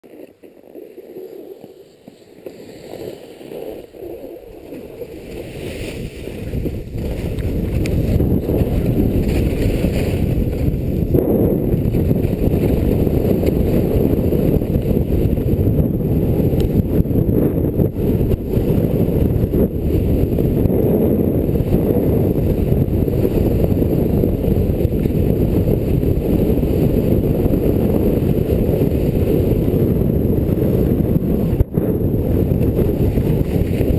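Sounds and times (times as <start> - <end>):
wind buffeting microphone: 3.8 - 33.9.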